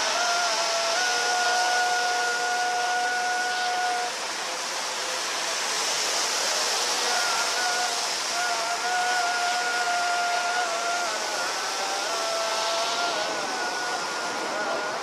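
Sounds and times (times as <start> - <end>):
jet engine whine: 0.0 - 15.0
jet engines rushing hiss: 0.0 - 15.0.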